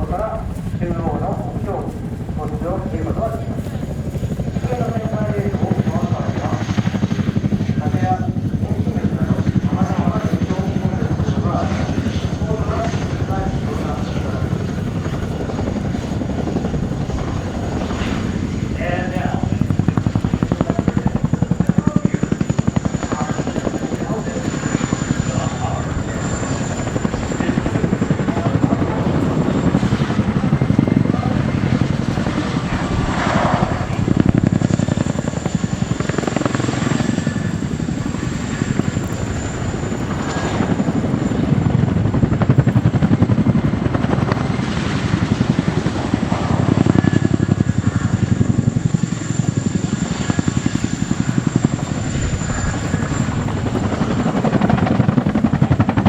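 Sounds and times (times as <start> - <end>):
helicopter rotor blade chop: 0.0 - 56.0
high turbine engine whine: 0.0 - 56.0.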